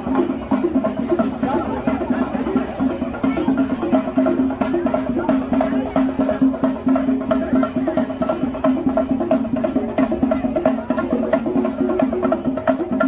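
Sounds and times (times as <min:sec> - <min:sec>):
dance music with quick drumbeats: 0:00.0 - 0:13.0.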